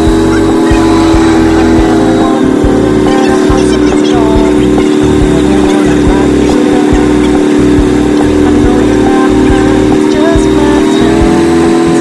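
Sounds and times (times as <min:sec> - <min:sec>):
airboat engine drone: 0:00.0 - 0:12.0.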